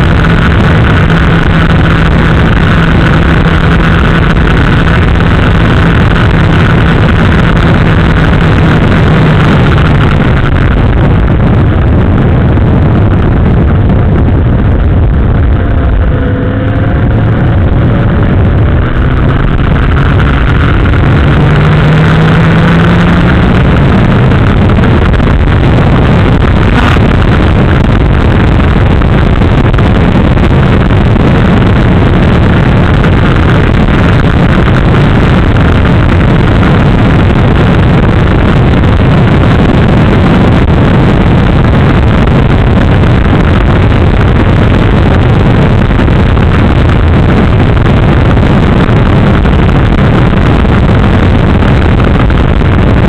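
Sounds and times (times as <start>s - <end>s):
motorcycle engine running: 0.0s - 53.0s
road noise: 0.0s - 53.0s
wind noise: 0.0s - 53.0s.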